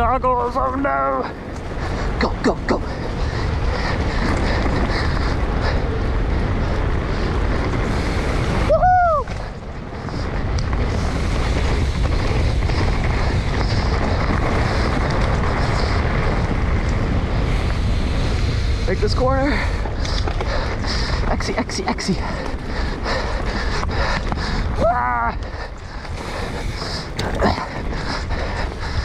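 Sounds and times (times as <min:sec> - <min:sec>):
mountain bike rumbling and rattling: 0:00.0 - 0:29.0
wind rushing over microphone: 0:00.0 - 0:29.0.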